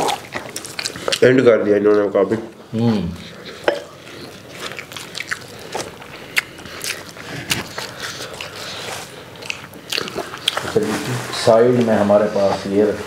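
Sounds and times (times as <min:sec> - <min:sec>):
people chewing food: 0:00.0 - 0:12.7.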